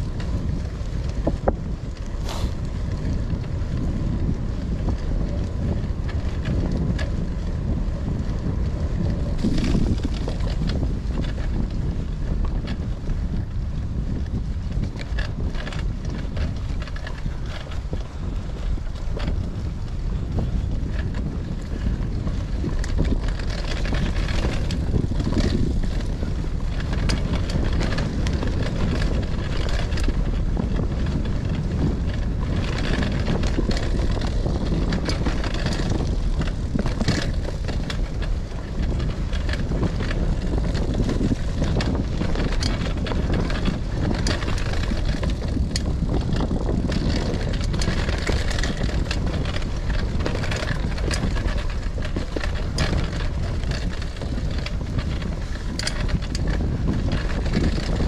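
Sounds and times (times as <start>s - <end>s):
bike clicks and rattles: 0.0s - 58.0s
bike tyres rolling on dirt: 0.0s - 58.0s
wind rumbling on microphone: 0.0s - 58.0s.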